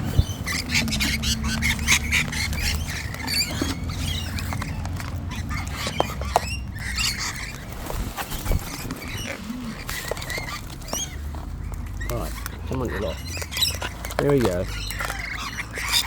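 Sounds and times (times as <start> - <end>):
cockatoos squawking: 0.0 - 16.0.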